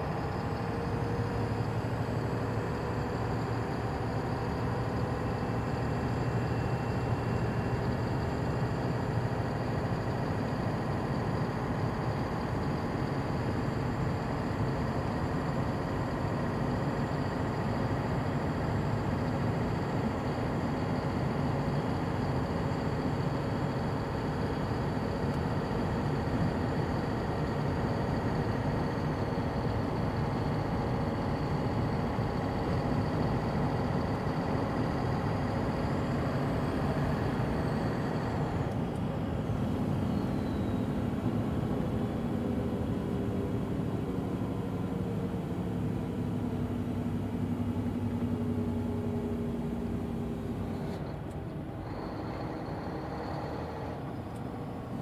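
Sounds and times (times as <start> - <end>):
heavy truck engine running: 0.0 - 55.0
road noise: 0.0 - 55.0.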